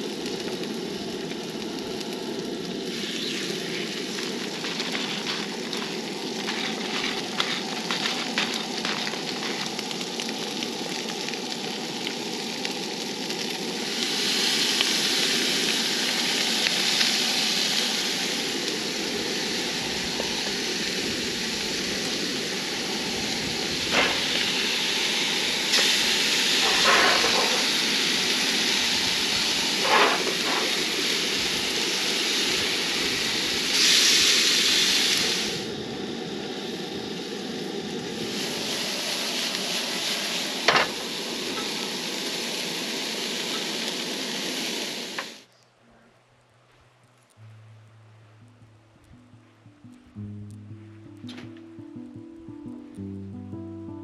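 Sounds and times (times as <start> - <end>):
fish sizzling in oil: 0.0 - 45.5.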